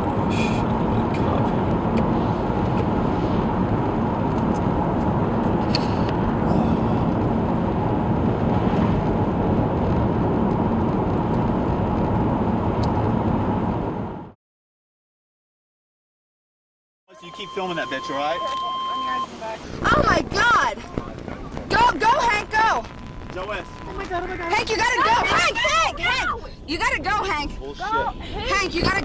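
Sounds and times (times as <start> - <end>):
rushing wind: 0.0 - 14.4, 19.2 - 29.0
vehicle noise: 0.0 - 14.4, 17.1 - 29.0.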